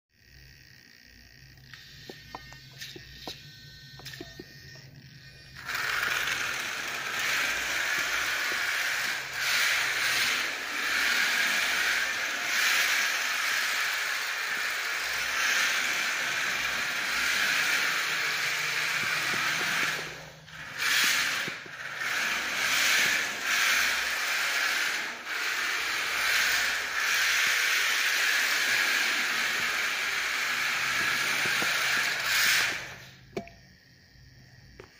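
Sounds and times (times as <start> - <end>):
toy car motor whirring: 0.2 - 33.4.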